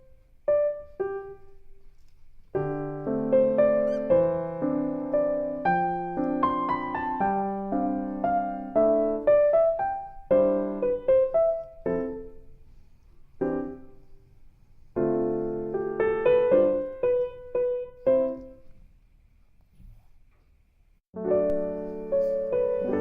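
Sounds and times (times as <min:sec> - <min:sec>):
solo piano music: 0:00.0 - 0:18.8, 0:21.1 - 0:23.0.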